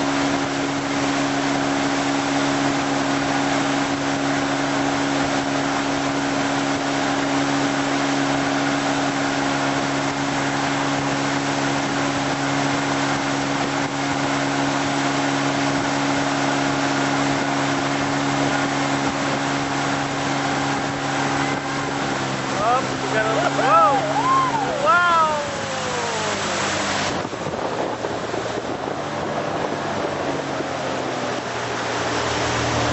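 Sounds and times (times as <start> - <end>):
boat engine humming: 0.0 - 32.9
water rushing: 0.0 - 32.9
wind: 0.0 - 32.9.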